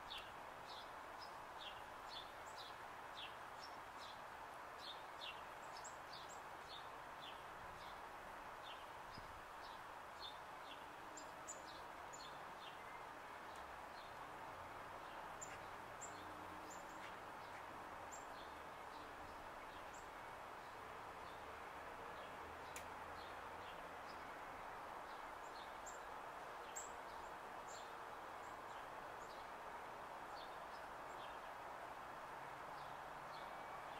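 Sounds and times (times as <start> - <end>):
faint steady background noise: 0.0 - 33.9
songbird chirping: 0.0 - 33.9
steady background hiss: 0.0 - 33.9.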